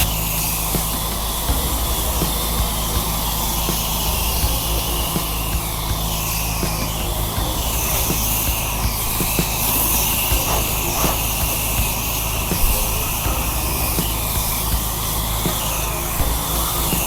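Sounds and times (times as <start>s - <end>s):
pressure washer engine running: 0.0s - 17.0s
water spraying hiss: 0.0s - 17.0s.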